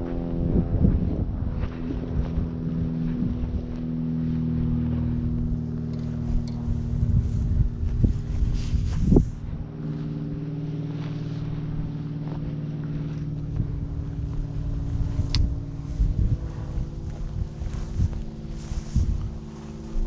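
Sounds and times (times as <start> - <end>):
vehicle engine running: 0.0 - 20.0
wind noise on microphone: 0.0 - 20.0.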